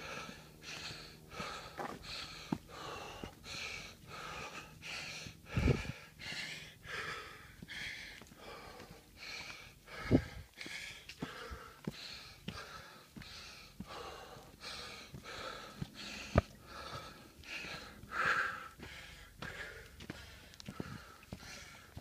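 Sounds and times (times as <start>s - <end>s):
footsteps on dirt: 0.0s - 4.5s, 7.6s - 22.0s
person breathing hard: 0.0s - 22.0s.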